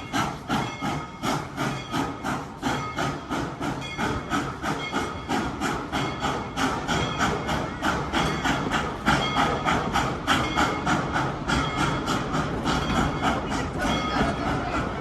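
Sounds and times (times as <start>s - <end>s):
steam locomotive puffing: 0.0s - 15.0s.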